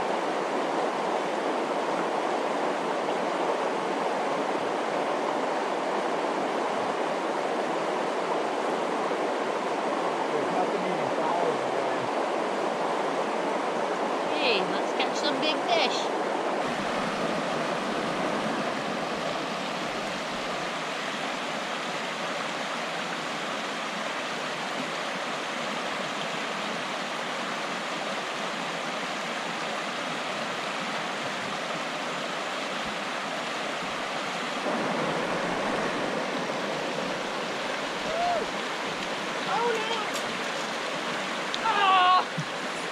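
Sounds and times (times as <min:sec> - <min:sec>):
brook water rushing: 0:00.0 - 0:42.9.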